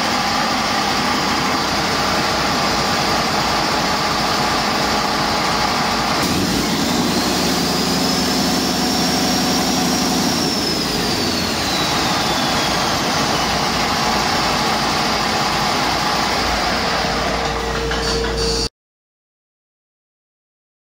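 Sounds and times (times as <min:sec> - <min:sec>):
diesel engine revving: 0:00.0 - 0:17.5
turbocharger whine: 0:00.0 - 0:18.7.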